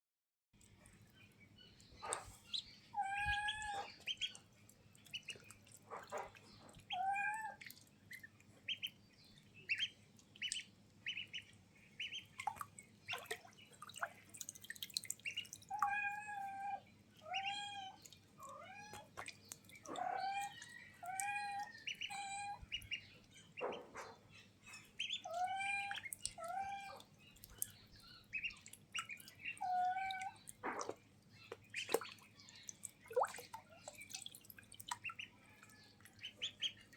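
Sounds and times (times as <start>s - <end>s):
water splashes and drips: 0.6s - 36.9s.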